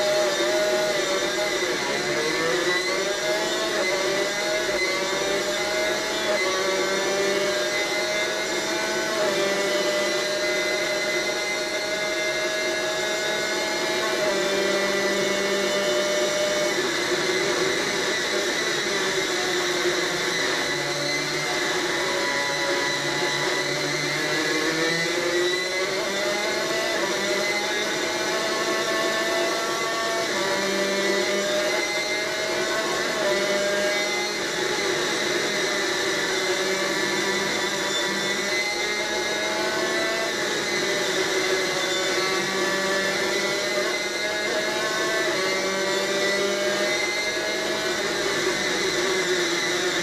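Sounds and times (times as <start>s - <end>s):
two-stroke racing engine: 0.0s - 50.0s.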